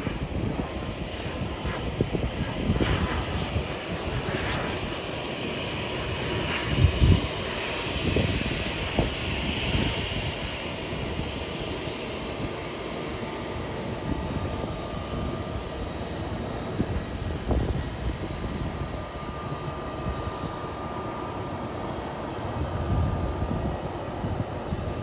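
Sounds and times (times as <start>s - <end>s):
turboprop engines rumbling: 0.0s - 25.0s.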